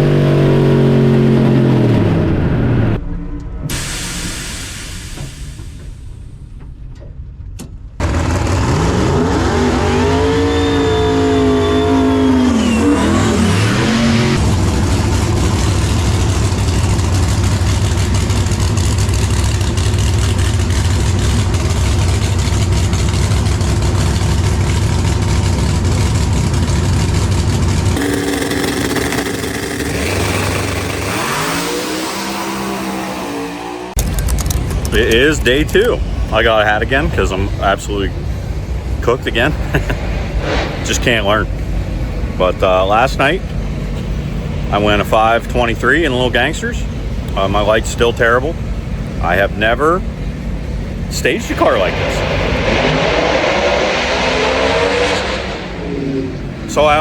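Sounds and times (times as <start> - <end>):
drag racing engine revving: 0.0 - 3.0, 8.0 - 57.0.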